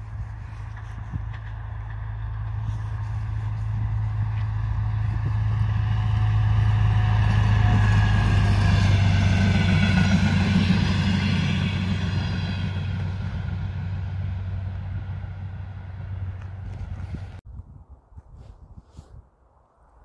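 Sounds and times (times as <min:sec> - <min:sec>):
train engine drone: 0:00.0 - 0:17.4
train wheels on rails: 0:00.0 - 0:17.4.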